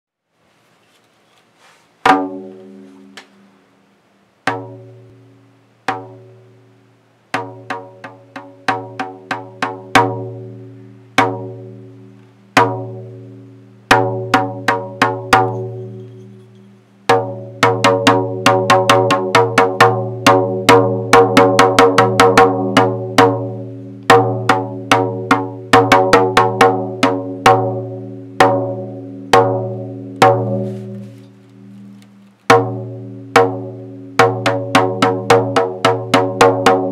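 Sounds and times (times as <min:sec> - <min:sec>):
pitched drum strikes: 0:02.0 - 0:03.5, 0:04.5 - 0:05.2, 0:05.9 - 0:06.3, 0:07.3 - 0:10.5, 0:11.2 - 0:11.9, 0:12.5 - 0:36.9.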